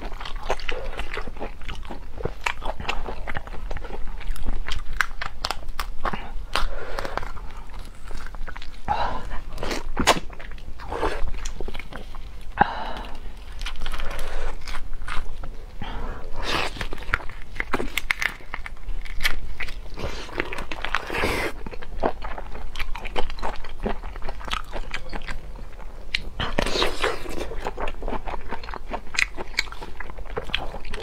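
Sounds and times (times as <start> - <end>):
biting and sucking prawn shells: 0.0 - 31.0
crunching and wet chewing: 0.0 - 31.0.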